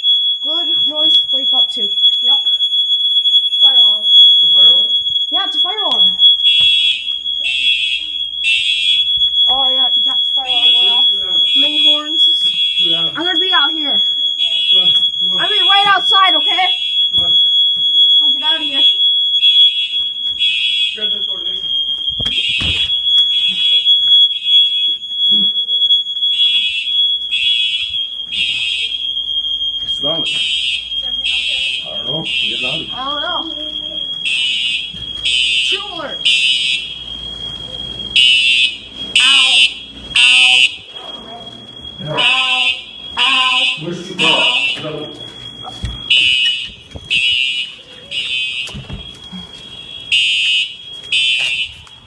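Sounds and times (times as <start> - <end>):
continuous high-pitched tone: 0.0 - 52.0
fire alarm horn blasts: 0.0 - 52.0.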